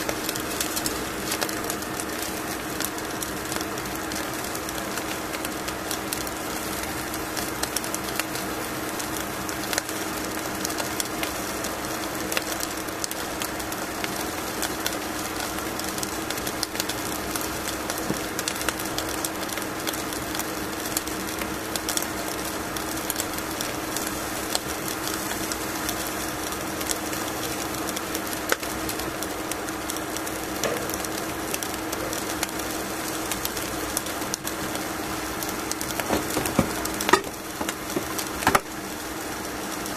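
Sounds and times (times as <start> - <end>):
fish sizzling on foil: 0.0 - 39.9.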